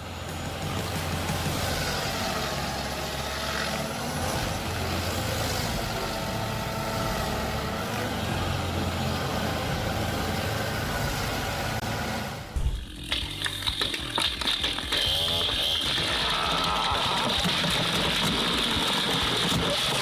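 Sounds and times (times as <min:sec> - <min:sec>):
diesel engine rumble: 0:00.0 - 0:20.0.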